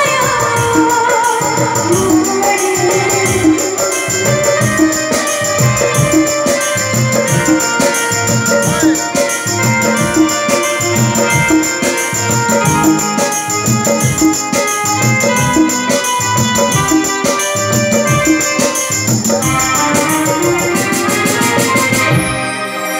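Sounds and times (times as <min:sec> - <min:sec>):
fast beat with shaker percussion: 0:00.0 - 0:22.7
keyboard or organ melody: 0:00.0 - 0:22.9.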